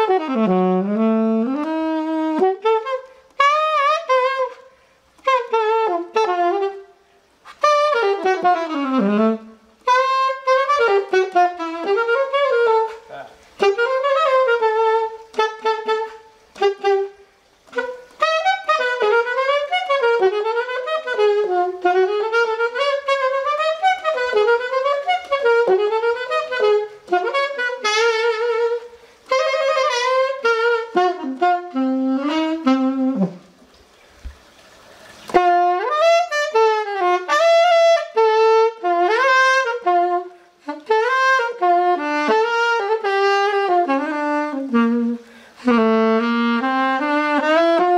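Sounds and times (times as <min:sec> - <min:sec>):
solo alto saxophone: 0:00.0 - 0:47.9.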